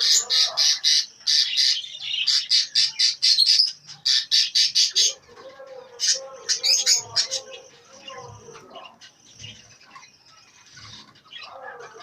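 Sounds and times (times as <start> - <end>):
parrots squawking: 0.0 - 12.0.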